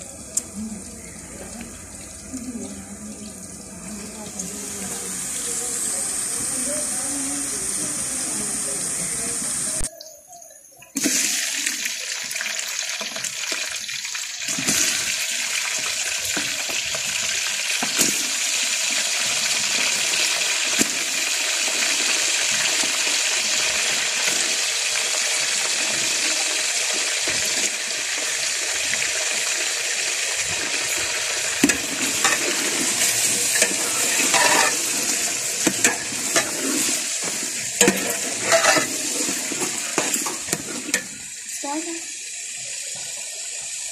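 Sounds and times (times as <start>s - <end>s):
chicken sizzling in a pot: 0.0s - 9.9s, 10.9s - 43.9s.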